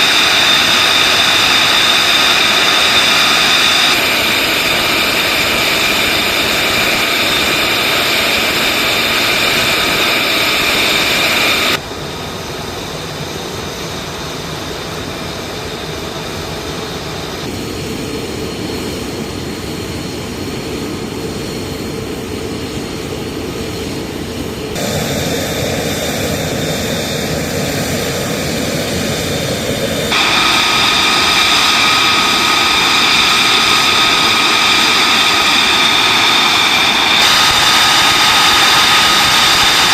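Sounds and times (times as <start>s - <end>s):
high-pitched engine whine: 0.0s - 39.9s
jet engines roaring: 0.0s - 39.9s.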